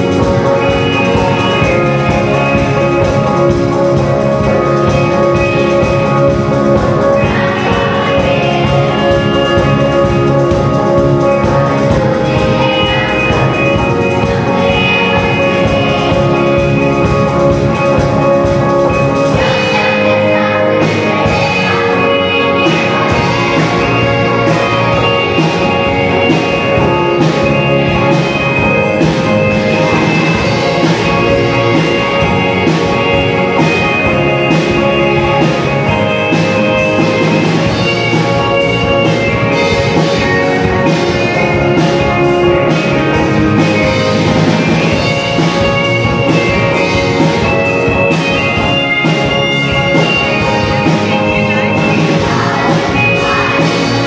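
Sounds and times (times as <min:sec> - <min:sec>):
steady drum beat: 0:00.0 - 0:54.0
upbeat instrumental music: 0:00.0 - 0:54.0.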